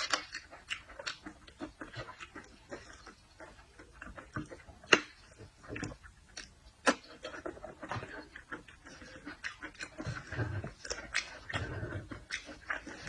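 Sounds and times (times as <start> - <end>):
chewing and lip-smacking: 0.0 - 13.0.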